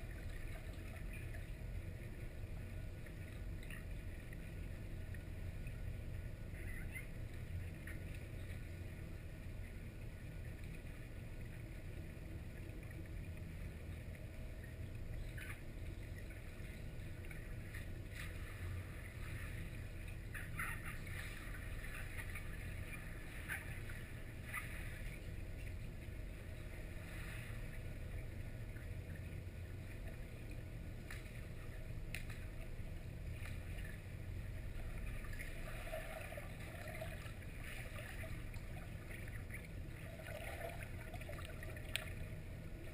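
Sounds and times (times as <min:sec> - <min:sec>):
underwater low rumble: 0:00.0 - 0:42.9.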